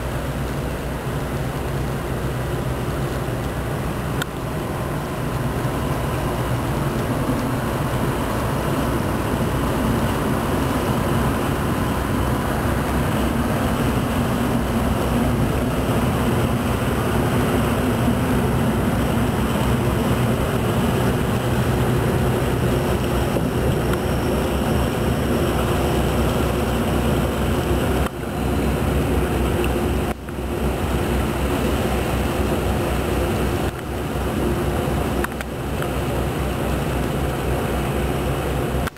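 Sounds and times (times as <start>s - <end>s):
barge diesel engine drone: 0.0s - 38.9s
water washing along hull: 0.0s - 38.9s.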